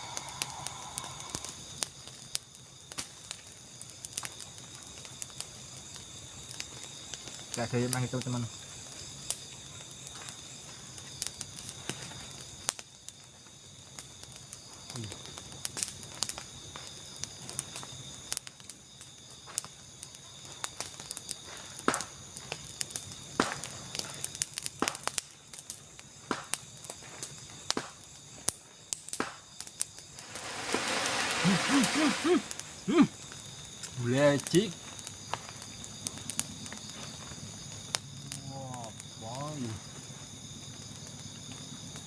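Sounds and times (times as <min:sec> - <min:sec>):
insects chorus: 0:00.0 - 0:42.0.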